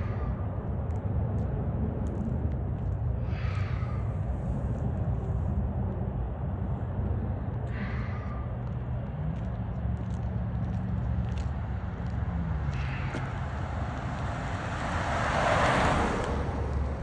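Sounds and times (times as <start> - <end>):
low droning hum: 0.0 - 17.0.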